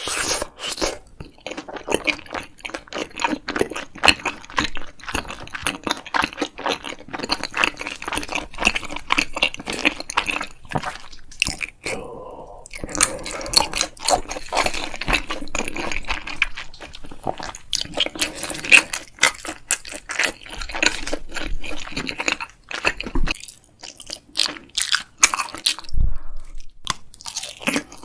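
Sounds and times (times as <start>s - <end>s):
crunching and wet mouth sounds: 0.0s - 28.0s
person chewing food: 0.0s - 28.0s.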